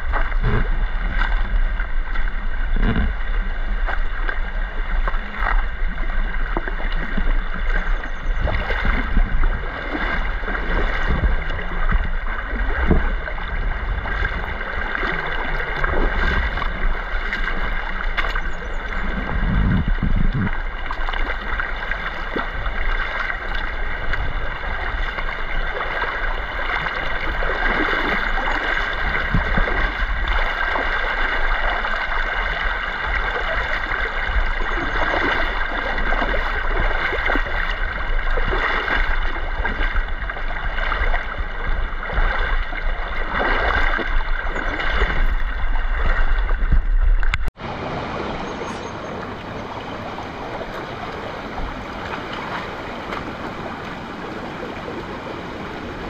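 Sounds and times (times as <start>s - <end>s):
stream water gurgling: 0.0s - 56.0s.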